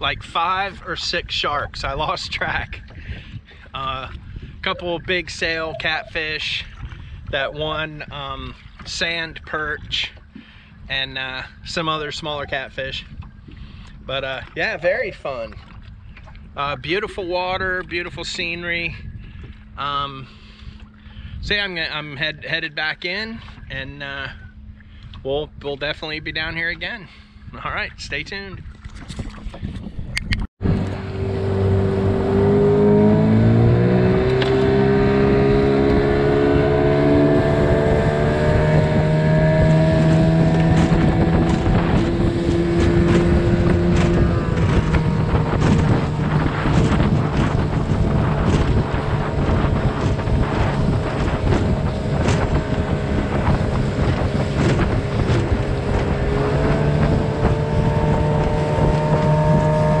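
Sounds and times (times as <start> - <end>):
outboard motor running: 0.0 - 60.0
wind noise on microphone: 0.0 - 60.0
hull slapping on water: 0.3 - 10.8, 12.0 - 18.4, 28.6 - 60.0.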